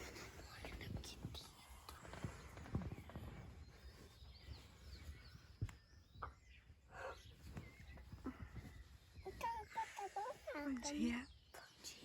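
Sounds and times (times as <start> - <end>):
faint bird chirps: 0.0 - 12.0
rural background noise: 0.0 - 12.0.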